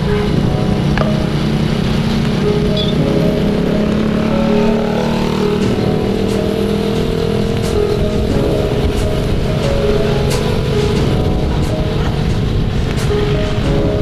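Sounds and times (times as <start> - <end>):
motorcycle engine running: 0.0 - 13.0
road and wind noise: 0.0 - 14.0.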